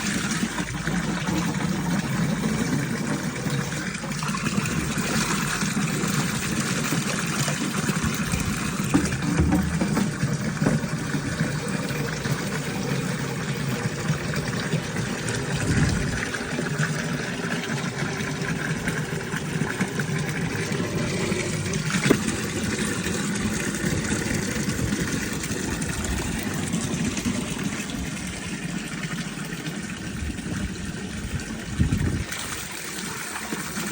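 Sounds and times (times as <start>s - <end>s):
spring water running: 0.0s - 33.9s.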